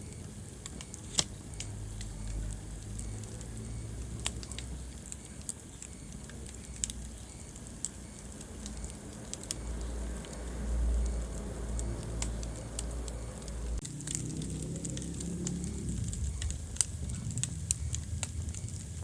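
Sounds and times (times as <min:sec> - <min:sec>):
low steady rumble: 0:00.0 - 0:19.0
sharp pops of fire: 0:00.0 - 0:19.0
wood fire crackling: 0:00.0 - 0:19.0.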